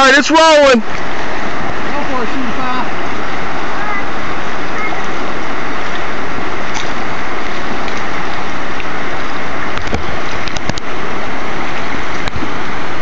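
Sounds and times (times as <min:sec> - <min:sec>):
rushing whitewater: 0:00.0 - 0:13.0.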